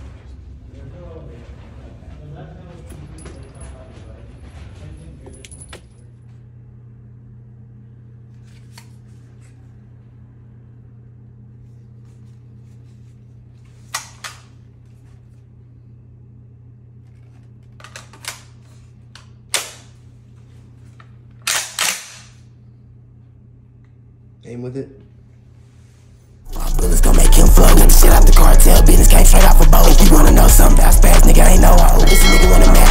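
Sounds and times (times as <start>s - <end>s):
low electrical hum: 0.0s - 32.9s.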